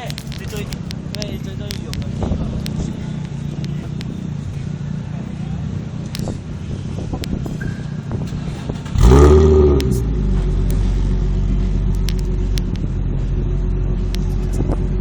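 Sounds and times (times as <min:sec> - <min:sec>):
car engine idling: 0:00.0 - 0:15.0
car engine revving: 0:00.0 - 0:15.0.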